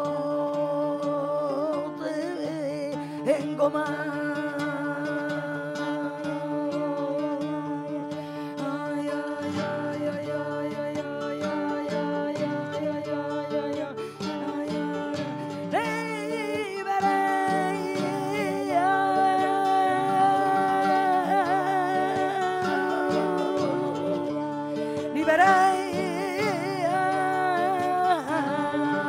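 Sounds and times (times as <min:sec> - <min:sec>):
nylon-string guitar plucked: 0:00.0 - 0:29.0
strong voice singing ornamented notes: 0:00.0 - 0:29.0
women singing long notes: 0:00.0 - 0:29.0.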